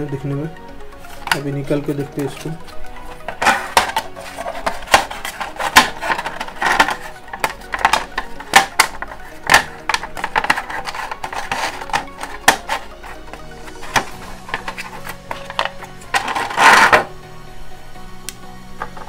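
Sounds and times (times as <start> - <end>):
card and cable rustling: 1.0 - 17.1.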